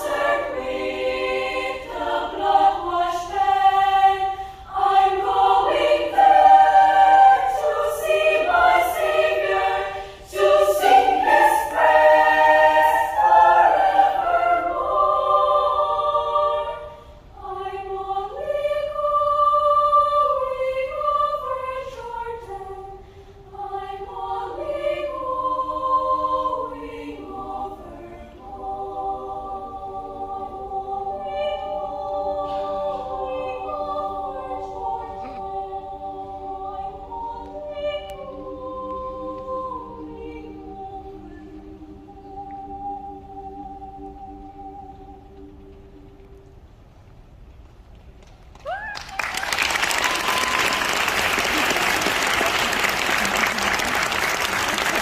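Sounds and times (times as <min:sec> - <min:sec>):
children's choir singing: 0:00.0 - 0:46.8, 0:49.4 - 0:55.0.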